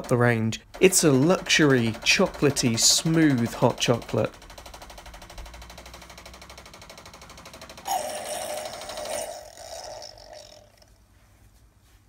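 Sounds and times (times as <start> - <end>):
coffee machine pump buzzing: 0.8 - 10.9.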